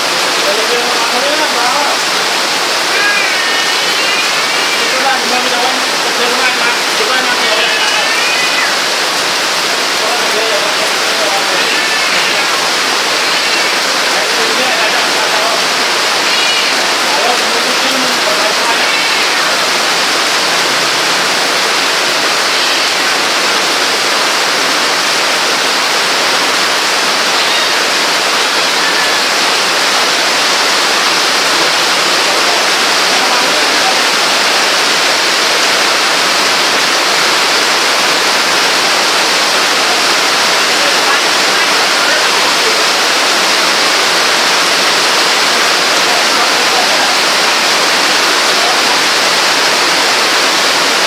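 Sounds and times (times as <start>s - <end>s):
heavy rain hissing: 0.0s - 51.0s.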